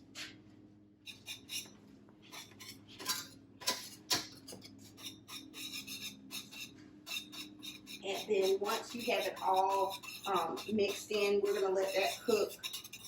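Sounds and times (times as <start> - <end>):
metal utensil scraping saucepan: 1.1 - 13.0.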